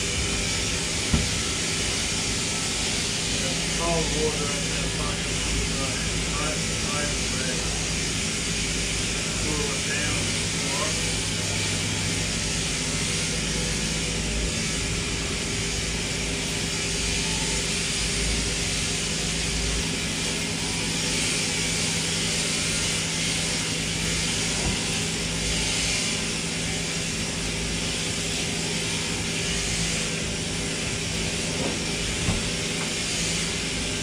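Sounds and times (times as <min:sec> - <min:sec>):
shearing machine humming: 0:00.0 - 0:34.0.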